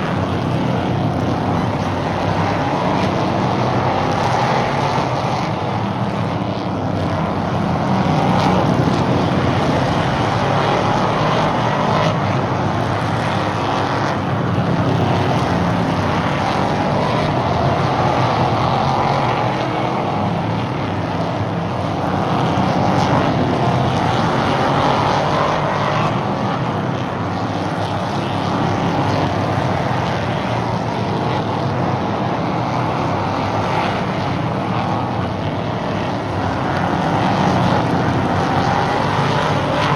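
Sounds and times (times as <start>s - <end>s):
racing car engines: 0.0s - 39.9s.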